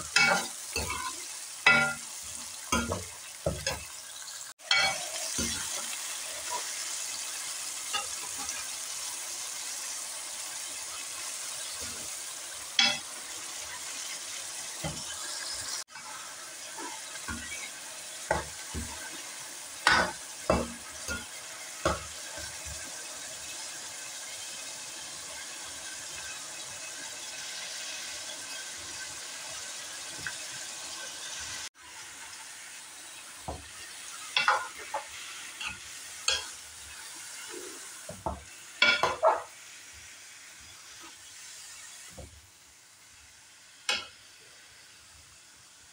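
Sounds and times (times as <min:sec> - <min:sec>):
meat sizzling in oil: 0:00.0 - 0:45.9.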